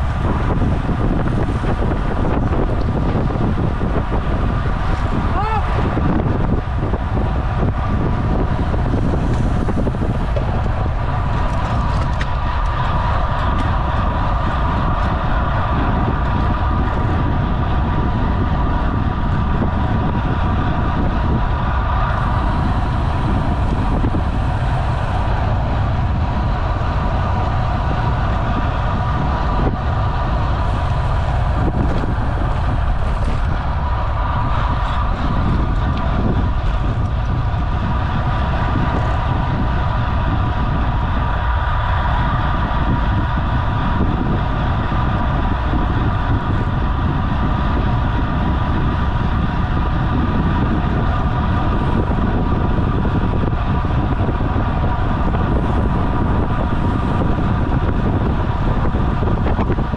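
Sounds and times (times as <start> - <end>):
bike tyres and drivetrain whirring: 0.0 - 59.9
wind rushing over microphone: 0.0 - 59.9.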